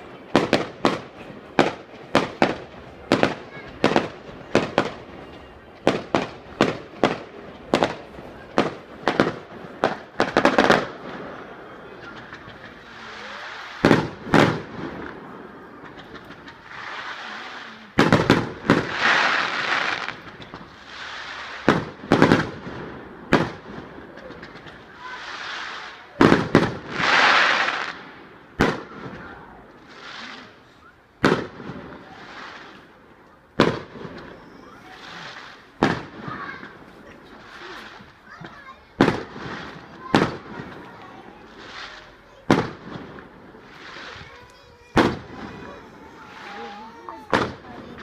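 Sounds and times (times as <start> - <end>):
fireworks bangs: 0.0 - 48.0
fireworks hissing crackle: 0.0 - 48.0.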